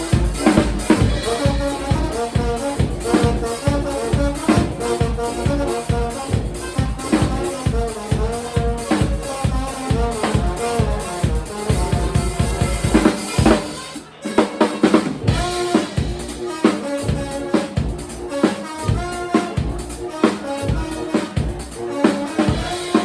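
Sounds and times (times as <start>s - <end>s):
bass drum and snare: 0.0s - 13.8s, 14.6s - 23.0s
live band playing: 0.0s - 23.0s.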